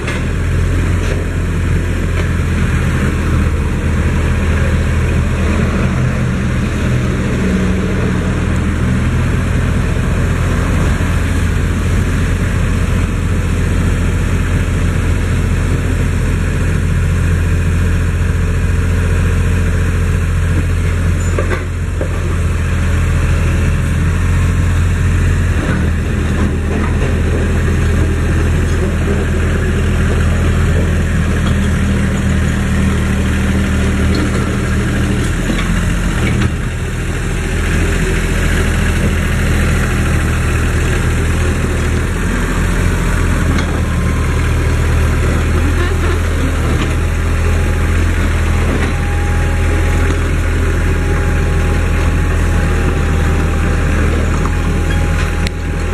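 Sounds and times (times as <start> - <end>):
excavator engine idling: 0.0 - 55.9.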